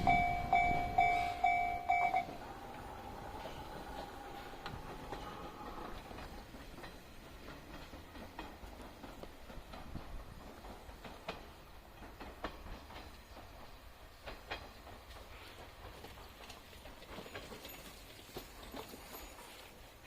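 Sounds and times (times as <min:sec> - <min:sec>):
distant train rumble: 0:00.0 - 0:20.0
wheels clicking on track: 0:00.0 - 0:20.0.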